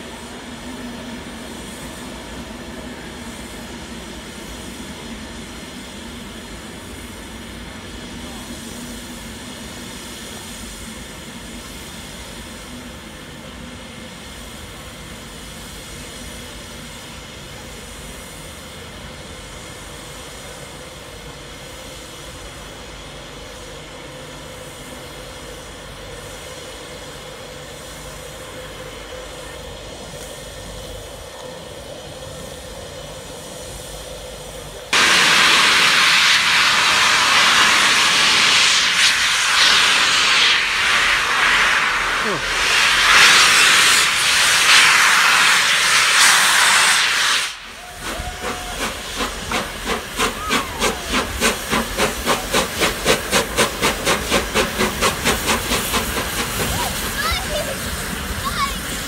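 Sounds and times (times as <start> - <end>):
loud hiss of escaping steam: 0.0 - 59.0
steam locomotive faint hiss and hum: 0.0 - 59.0.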